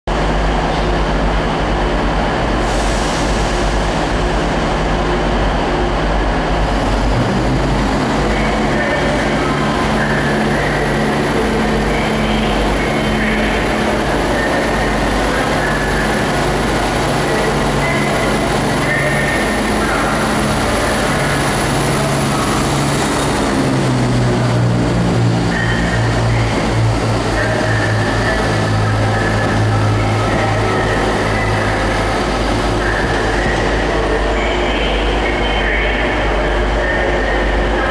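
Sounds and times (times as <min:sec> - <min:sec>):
diesel train engines running: 0:00.1 - 0:37.9.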